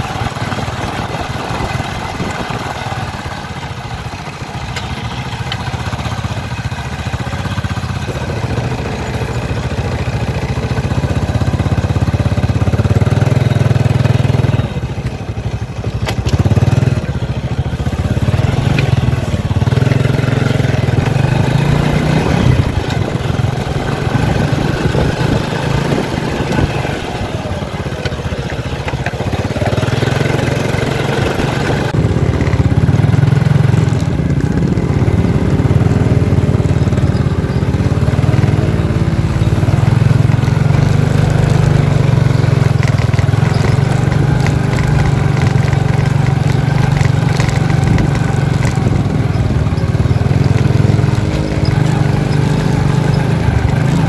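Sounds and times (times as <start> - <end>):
small motorcycle engines droning: 0.0 - 54.0.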